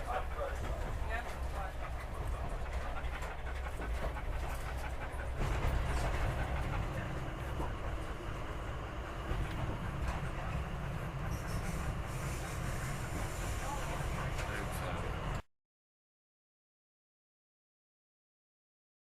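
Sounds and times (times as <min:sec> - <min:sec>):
moving train rumble: 0:00.0 - 0:15.4.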